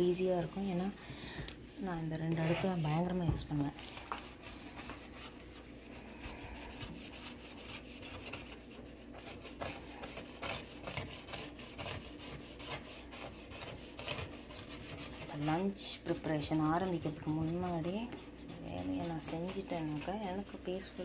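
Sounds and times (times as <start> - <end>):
sponge scrubbing glass stovetop: 1.7 - 21.0.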